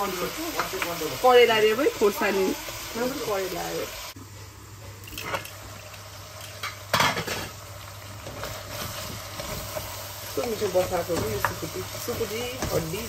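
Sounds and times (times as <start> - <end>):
utensil stirring food in pan: 0.0 - 4.1, 5.1 - 13.0
faint sizzle of frying: 0.0 - 13.0.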